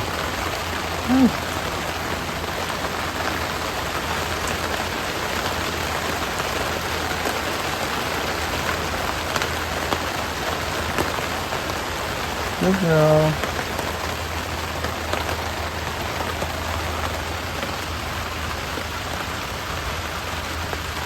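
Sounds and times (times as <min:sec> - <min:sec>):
raindrop ticks: 0:00.0 - 0:19.3
steady rain: 0:00.0 - 0:21.0.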